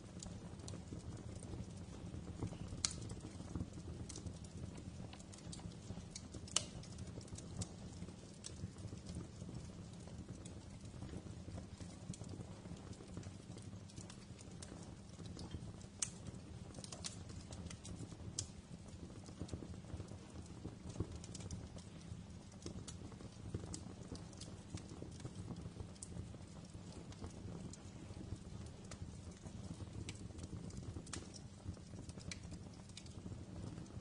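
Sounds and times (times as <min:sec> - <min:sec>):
low rumble of burning: 0:00.0 - 0:34.0
wood fire crackling: 0:00.0 - 0:34.0.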